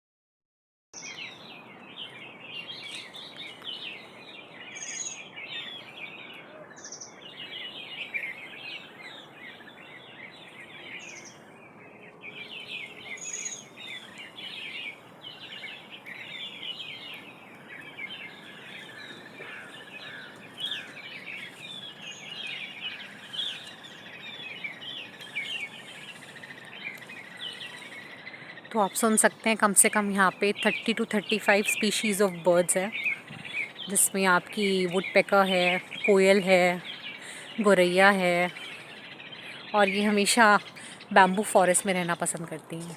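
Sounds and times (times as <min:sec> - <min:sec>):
chorus of birds chirping: 0:01.0 - 0:42.9.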